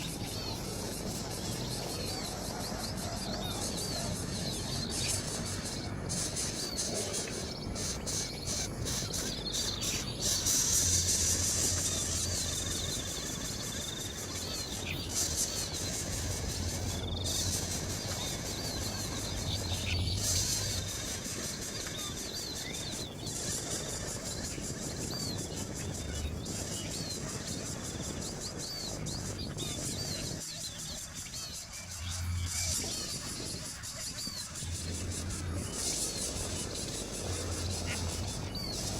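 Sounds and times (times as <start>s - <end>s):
insect hiss: 0.0s - 38.9s.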